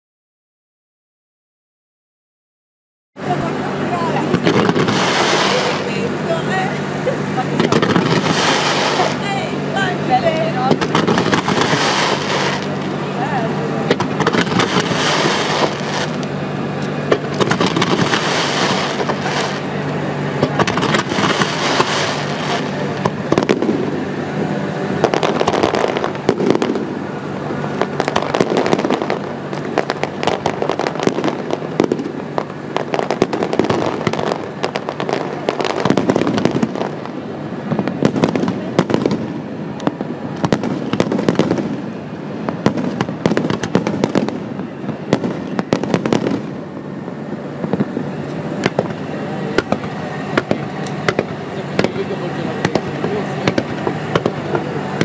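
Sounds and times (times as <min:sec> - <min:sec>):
fireworks bangs and crackling: 0:03.2 - 0:55.0
loud hissing rush: 0:03.2 - 0:55.0.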